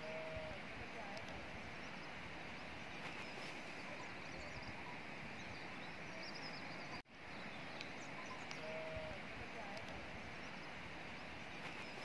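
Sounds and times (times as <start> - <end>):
small birds chirping faintly: 0.0 - 12.0.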